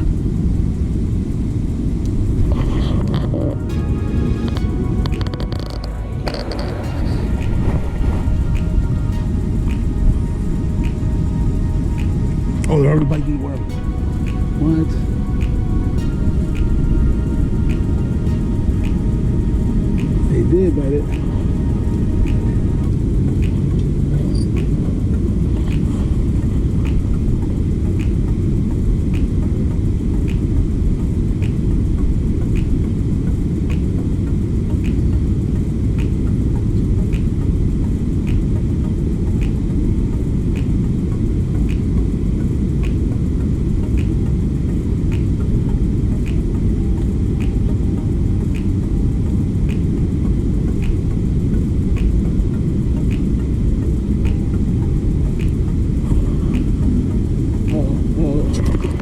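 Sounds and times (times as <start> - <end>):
low rumbling noise: 0.0 - 59.0.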